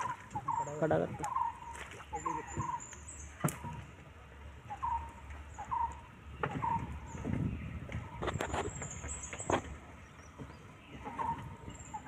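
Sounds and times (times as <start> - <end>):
low splashing water: 0.0 - 12.0.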